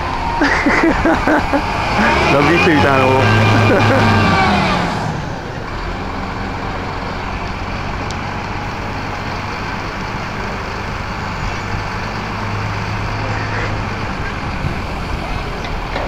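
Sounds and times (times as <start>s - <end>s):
crane engine low drone: 0.0s - 16.0s.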